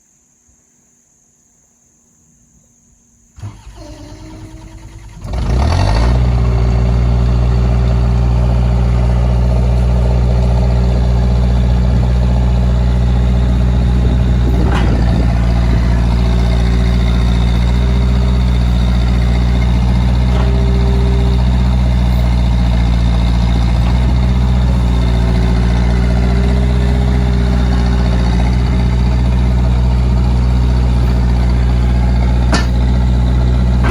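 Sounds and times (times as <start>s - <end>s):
diesel engine starting and idling: 3.4s - 33.9s.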